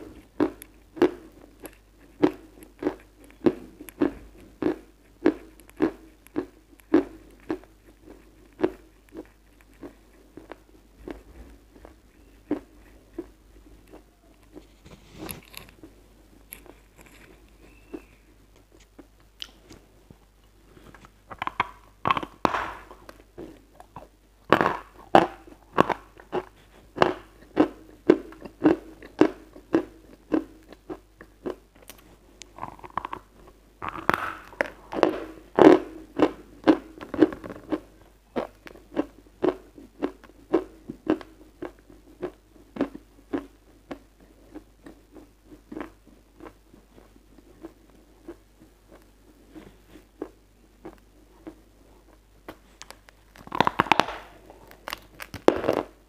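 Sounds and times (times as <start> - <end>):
chalk crunching when chewed: 0.1 - 15.9, 16.5 - 19.8, 21.0 - 51.6, 52.6 - 55.9.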